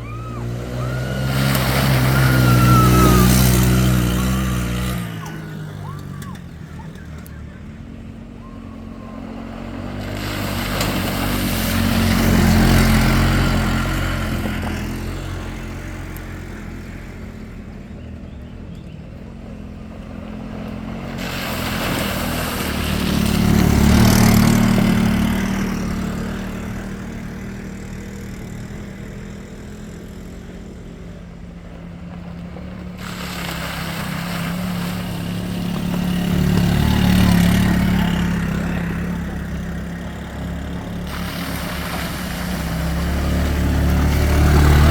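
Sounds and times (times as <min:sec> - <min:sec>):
off-road vehicle engine humming: 0:00.0 - 0:44.9.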